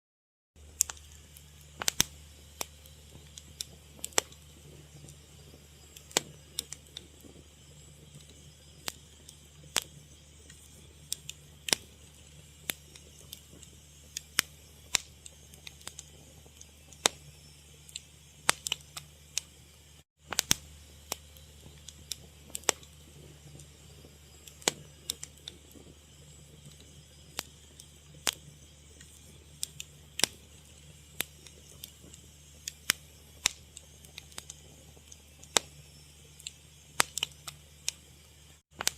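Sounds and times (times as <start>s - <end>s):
steady low hum: 0.6s - 38.9s
wood fire crackling: 0.6s - 38.9s.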